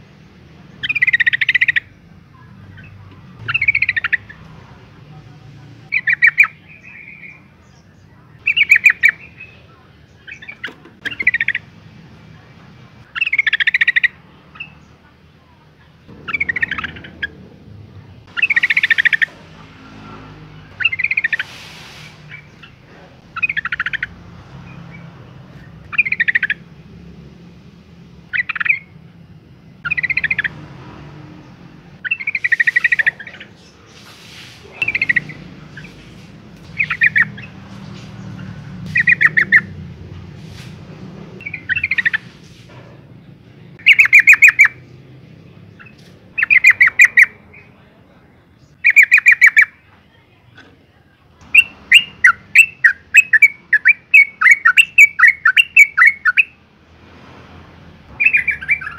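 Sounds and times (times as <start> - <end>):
bulbul calling: 0.6 - 11.8, 12.9 - 15.1, 16.0 - 26.9, 28.2 - 29.1, 29.7 - 30.6, 31.4 - 40.7, 41.4 - 42.6, 43.6 - 48.0, 48.6 - 49.9, 51.4 - 56.6, 58.1 - 58.9.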